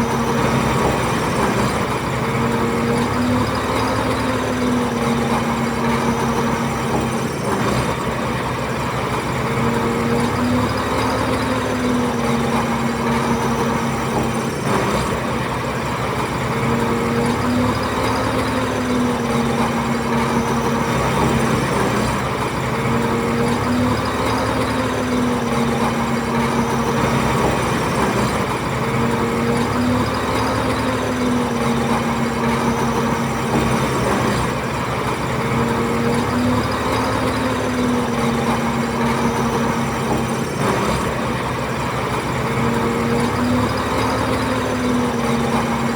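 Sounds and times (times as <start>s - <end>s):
diesel engine cycling: 0.0s - 45.9s.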